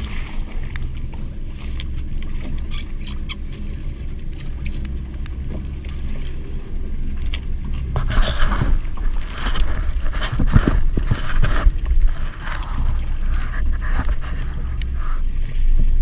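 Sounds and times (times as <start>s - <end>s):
boat engine humming: 0.0s - 16.0s
rough rush of water and wind: 0.0s - 16.0s.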